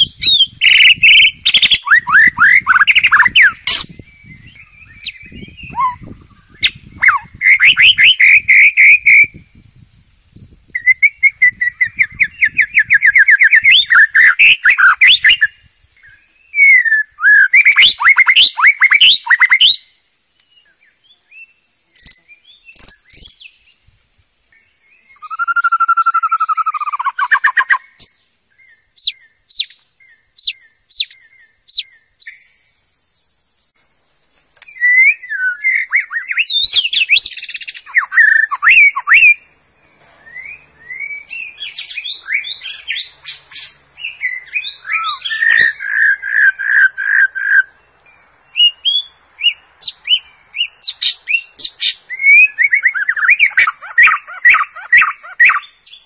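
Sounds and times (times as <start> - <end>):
bird singing whistled phrases: 0.0 - 9.6, 10.4 - 19.9, 20.5 - 23.8, 24.5 - 32.5, 34.6 - 47.8, 48.5 - 56.0.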